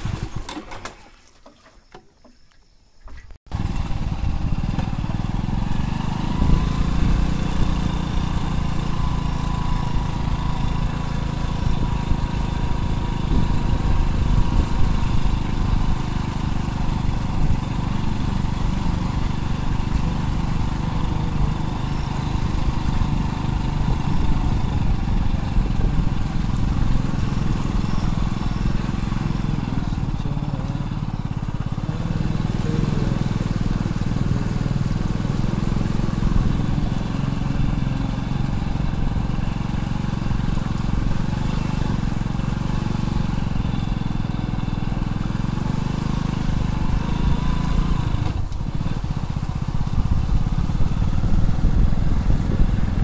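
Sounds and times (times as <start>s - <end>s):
motorcycle engine rumble: 0.0s - 1.2s, 1.9s - 53.0s.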